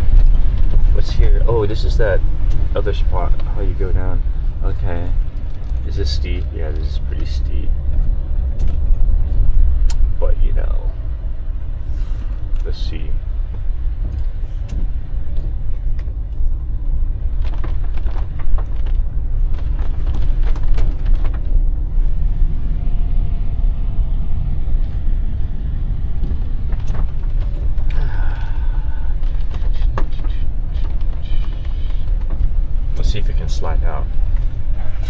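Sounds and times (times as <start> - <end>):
crackles and knocks: 0.0 - 3.8, 4.8 - 10.2, 12.3 - 22.8, 25.7 - 35.0
van driving rumble: 0.0 - 35.0.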